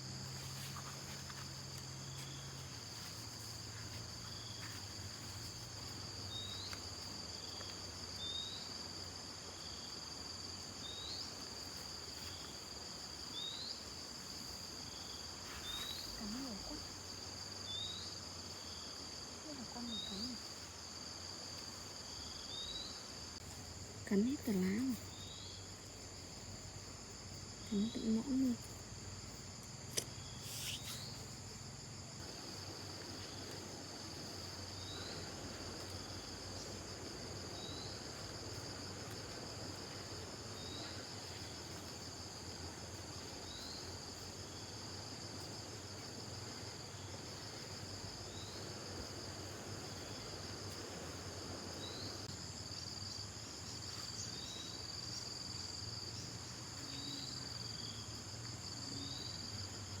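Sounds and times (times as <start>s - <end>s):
high-pitched insect chorus: 0.0s - 60.0s.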